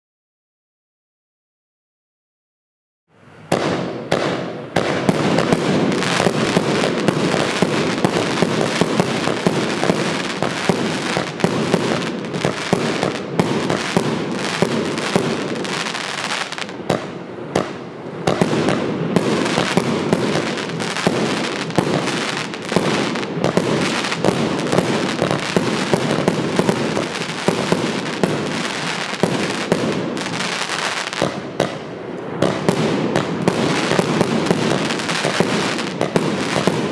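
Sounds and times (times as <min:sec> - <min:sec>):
firework cake firing shots: 0:03.5 - 0:36.9.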